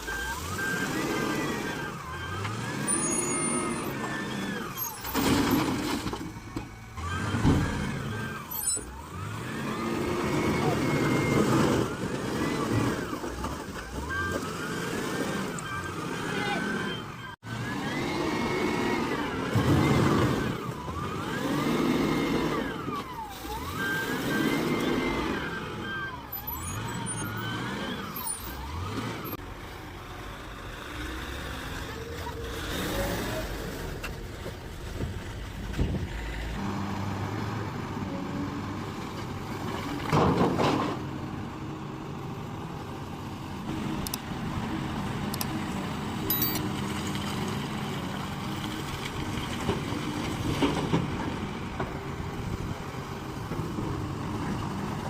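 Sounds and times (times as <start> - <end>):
diesel machinery under load: 0.0 - 55.0.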